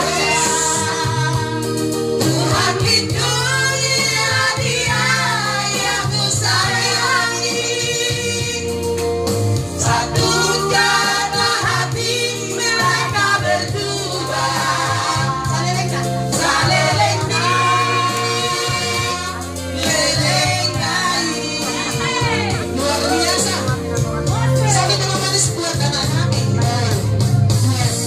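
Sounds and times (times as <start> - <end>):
group singing: 0.0 - 27.0
backing music with bass: 0.0 - 28.0.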